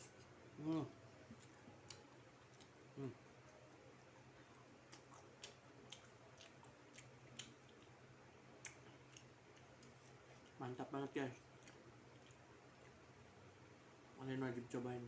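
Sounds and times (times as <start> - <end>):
low steady hum: 0.0 - 15.0
chewing crispy fried chicken: 0.1 - 13.8.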